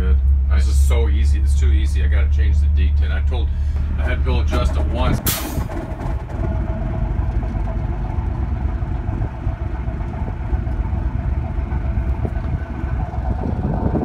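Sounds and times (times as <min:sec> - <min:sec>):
marine diesel engine running: 0:00.0 - 0:14.0.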